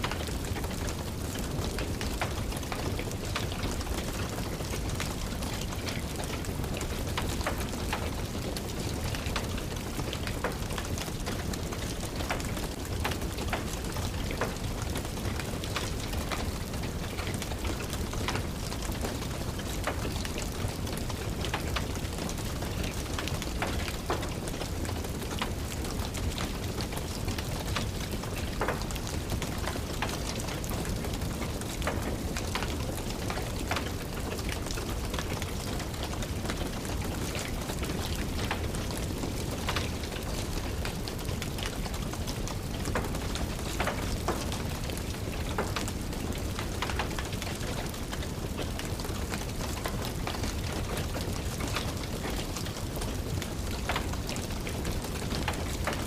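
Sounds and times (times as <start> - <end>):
steady rain: 0.0 - 56.0
wood fire crackling: 0.0 - 56.0.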